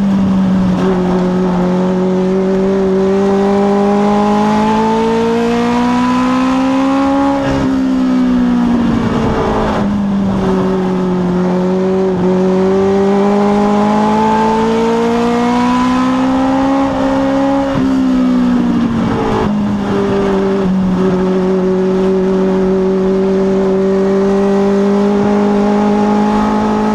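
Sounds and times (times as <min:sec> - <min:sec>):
race car engine revving: 0:00.0 - 0:26.9.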